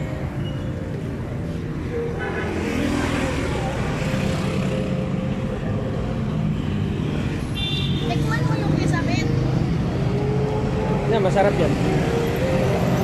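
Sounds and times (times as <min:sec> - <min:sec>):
traffic engines humming: 0:00.0 - 0:13.0.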